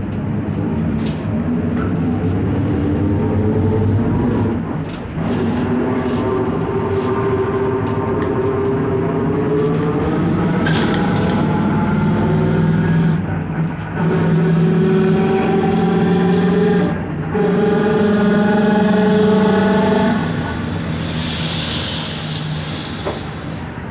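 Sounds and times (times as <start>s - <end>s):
bus drivetrain drone: 0.0s - 23.9s
rear differential growling: 0.0s - 23.9s.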